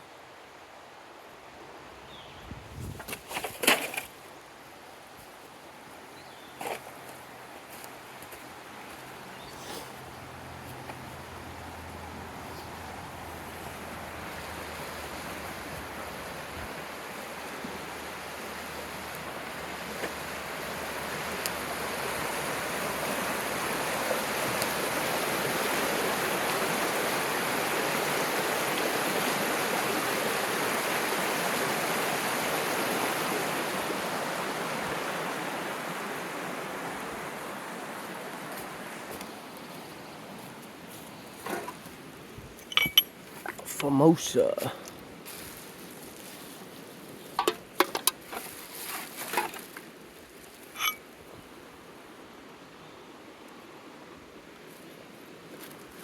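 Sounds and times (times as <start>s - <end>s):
creek water rushing: 3.6s - 56.0s.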